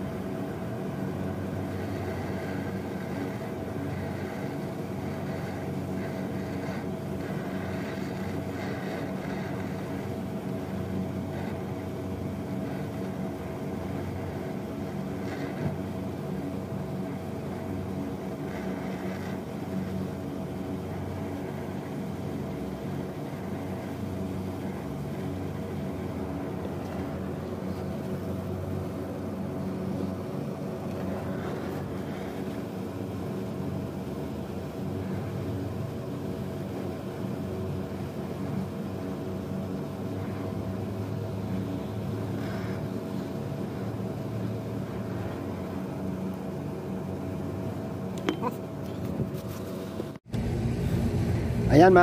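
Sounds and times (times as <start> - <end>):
steady low hum: 0.0 - 52.0
torch flame hissing: 0.0 - 52.0.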